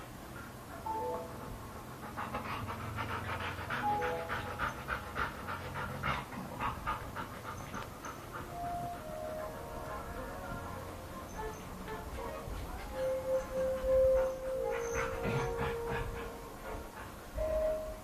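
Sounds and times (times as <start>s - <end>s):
puppy panting: 0.3s - 10.2s, 11.0s - 18.0s
soft background music: 0.7s - 18.0s.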